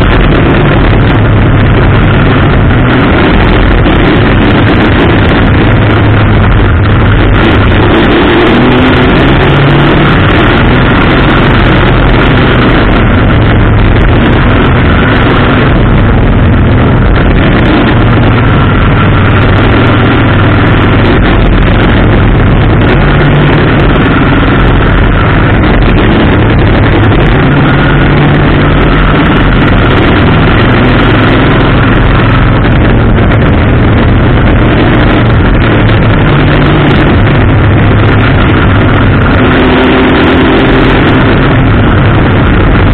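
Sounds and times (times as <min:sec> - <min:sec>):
race car engine running hard: 0:00.0 - 0:42.9.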